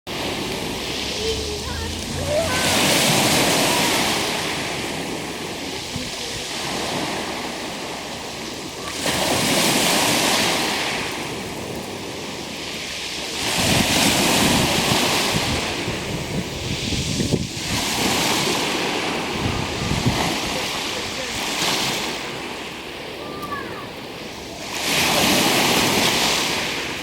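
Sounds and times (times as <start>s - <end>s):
waves breaking on shore: 0.1s - 27.0s
wind on microphone: 0.1s - 27.0s.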